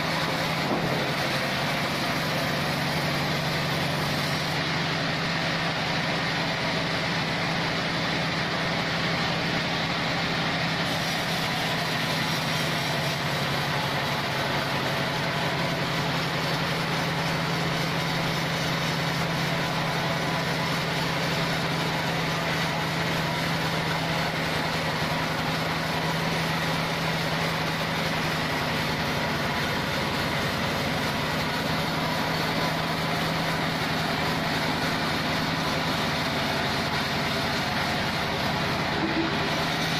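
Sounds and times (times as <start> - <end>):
band sawmill whirring: 0.0 - 39.9.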